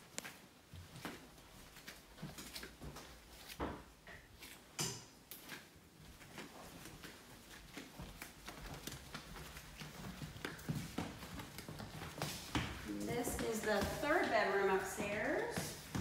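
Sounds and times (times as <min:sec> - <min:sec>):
flip-flop footsteps: 0:00.0 - 0:16.0.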